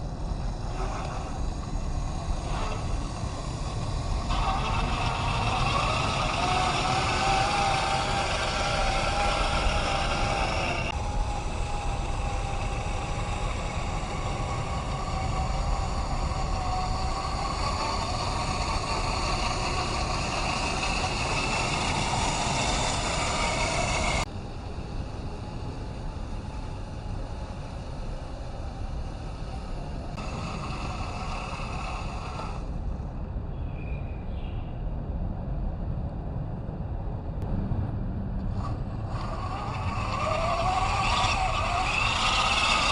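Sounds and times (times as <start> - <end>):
electric motor whine: 0.0 - 33.0, 38.4 - 42.9.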